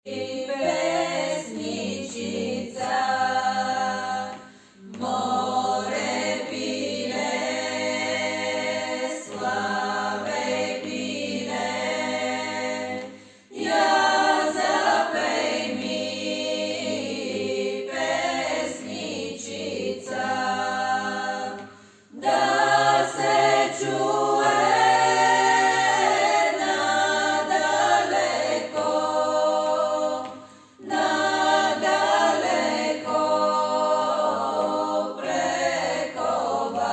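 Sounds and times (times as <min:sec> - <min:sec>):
voices singing unaccompanied: 0:00.0 - 0:36.9.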